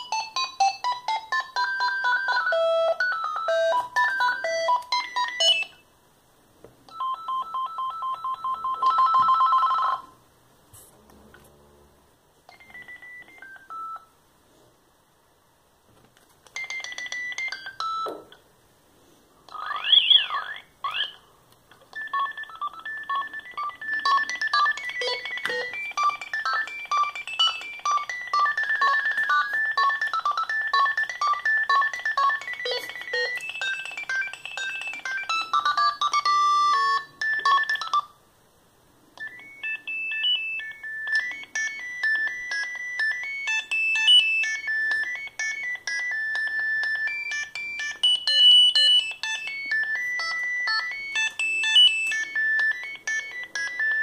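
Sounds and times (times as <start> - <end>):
phone ringtone beeping melodies: 0.0 - 5.8, 6.9 - 10.2, 12.5 - 14.2, 16.5 - 18.4, 19.5 - 21.2, 21.9 - 38.2, 39.2 - 54.0.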